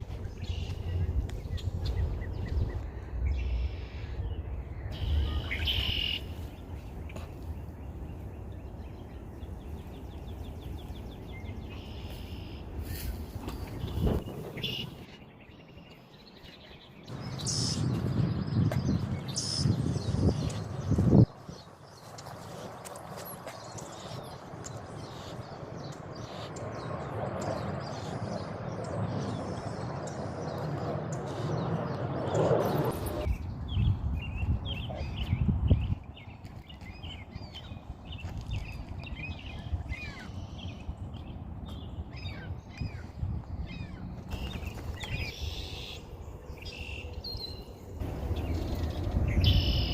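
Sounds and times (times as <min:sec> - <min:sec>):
steady low rumble: 0:00.0 - 0:15.4, 0:23.6 - 0:49.9
birds chirping: 0:00.0 - 0:49.9.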